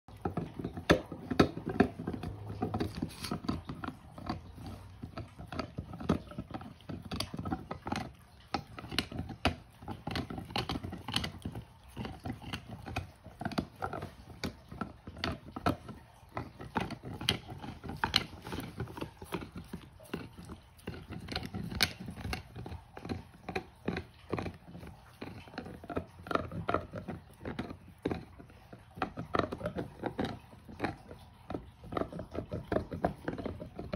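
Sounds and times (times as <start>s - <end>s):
dog teeth clicking on chew toy: 0.1s - 33.9s.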